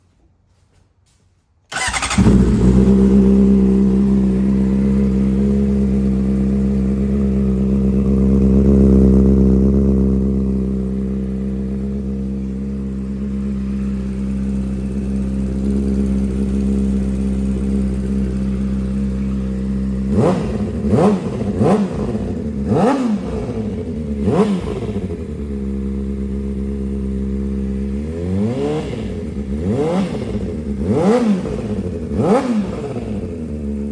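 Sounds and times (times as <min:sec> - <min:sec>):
engine ticking and rattling: 0:01.7 - 0:33.9
motorcycle engine revving: 0:01.7 - 0:33.9.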